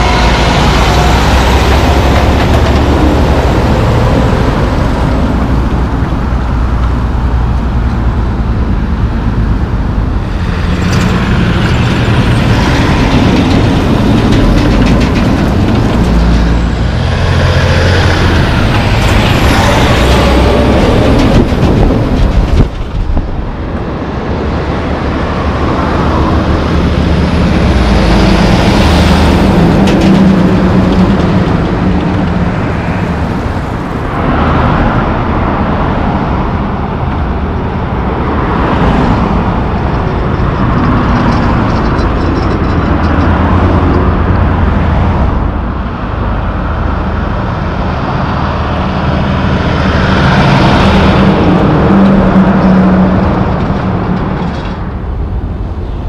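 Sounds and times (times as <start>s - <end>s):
cars passing: 0.0s - 56.0s
diesel trucks passing: 0.0s - 56.0s
tyre and road noise: 0.0s - 56.0s.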